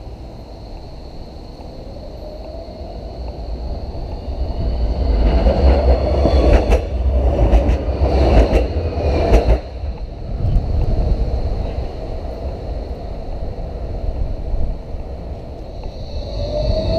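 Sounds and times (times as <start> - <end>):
tram wheels rumbling on rails: 0.0 - 16.9.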